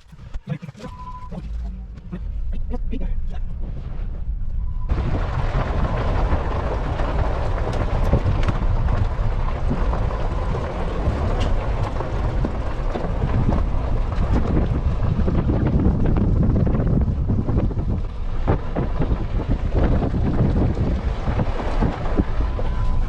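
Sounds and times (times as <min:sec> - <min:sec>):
wind buffeting microphone: 0:02.0 - 0:23.0.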